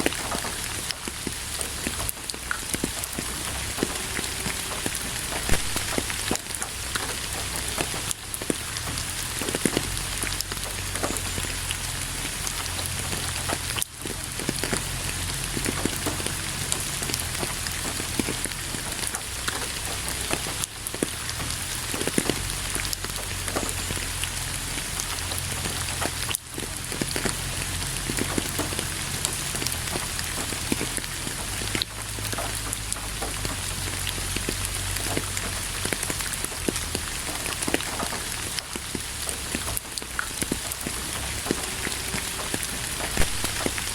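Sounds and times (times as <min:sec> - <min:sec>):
raindrops ticking: 0:00.0 - 0:43.9
steady rain falling: 0:00.0 - 0:43.9.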